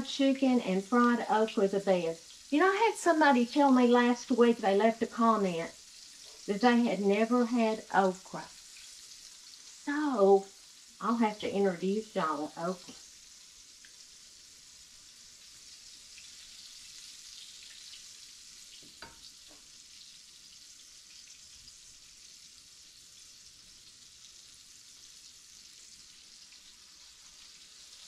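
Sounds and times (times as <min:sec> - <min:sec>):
chicken sizzling in skillet: 0:00.0 - 0:28.0.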